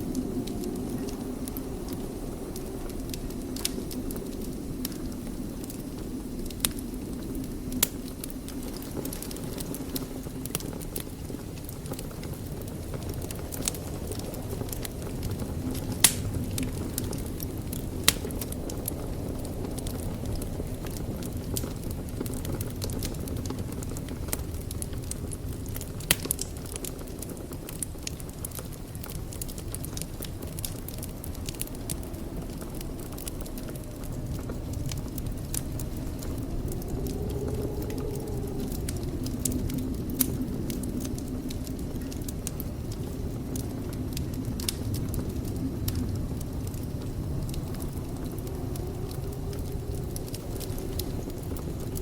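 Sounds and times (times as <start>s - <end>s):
burning wood crackling and popping: 0.0s - 52.0s
low rumble of flames: 0.0s - 52.0s.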